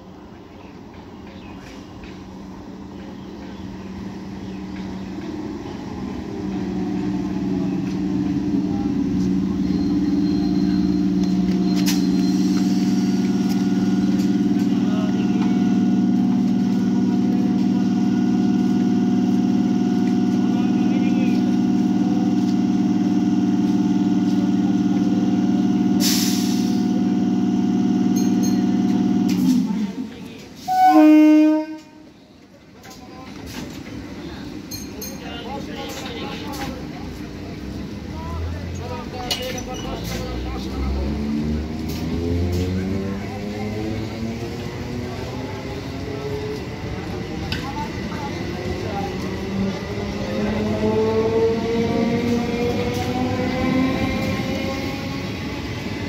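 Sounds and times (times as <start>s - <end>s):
electric train hum: 0.0s - 56.0s
train wheel rumble: 0.0s - 56.0s.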